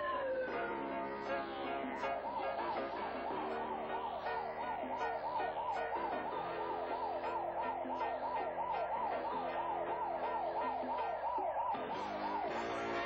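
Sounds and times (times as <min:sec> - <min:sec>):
background music: 0:00.0 - 0:13.0
emergency siren yelping: 0:00.0 - 0:13.0.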